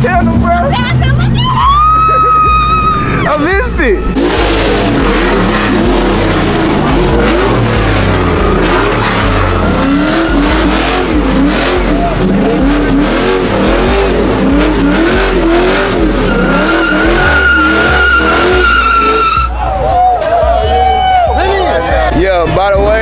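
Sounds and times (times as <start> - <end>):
car engine revving: 0.0 - 20.6
tyres squealing: 0.7 - 22.2.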